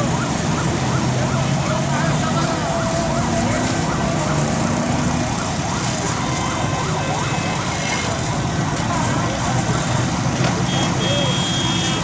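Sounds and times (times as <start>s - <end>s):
emergency siren yelping: 0.0s - 12.0s
steady background noise: 0.0s - 12.0s.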